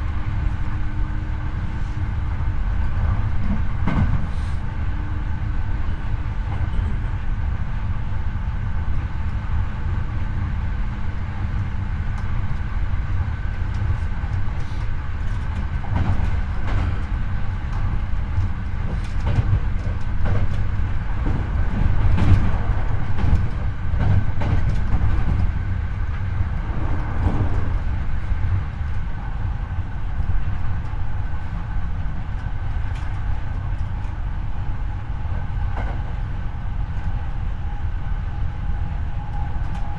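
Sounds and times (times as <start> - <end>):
low rumble of train wheels: 0.0 - 39.9
rail joint clicks: 0.0 - 39.9.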